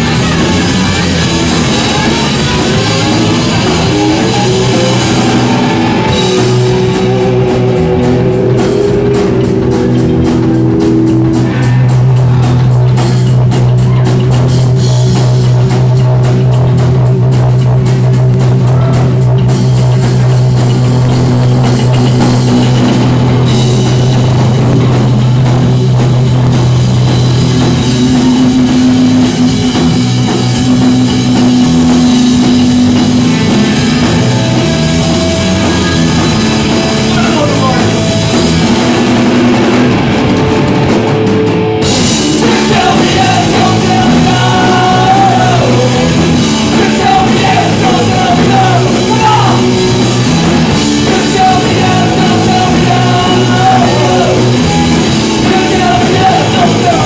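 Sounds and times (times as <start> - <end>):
electric bass: 0.0 - 57.0
electric guitar: 0.0 - 57.0
fast drumming on drum kit: 0.0 - 57.0.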